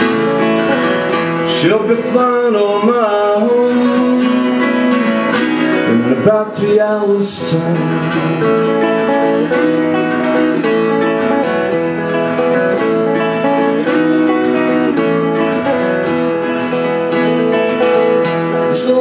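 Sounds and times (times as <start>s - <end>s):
acoustic guitar strumming and picking: 0.0s - 19.0s.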